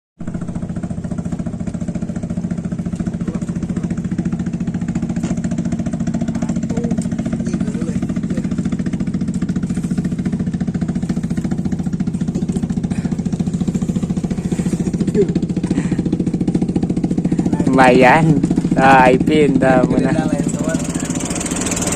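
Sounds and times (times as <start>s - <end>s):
small engine puttering: 0.2s - 21.9s.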